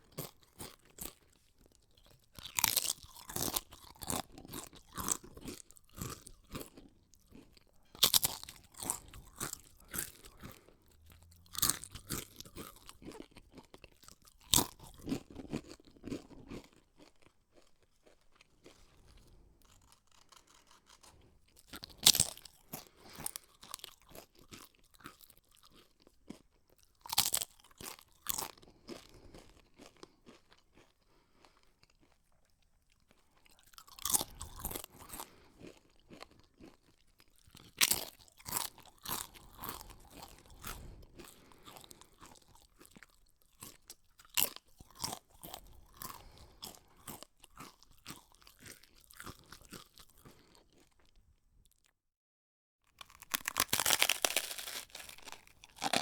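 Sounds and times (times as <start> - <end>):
quiet chewing: 0.0 - 51.2, 53.0 - 56.0
person crunching snack food: 0.0 - 51.8, 52.9 - 56.0.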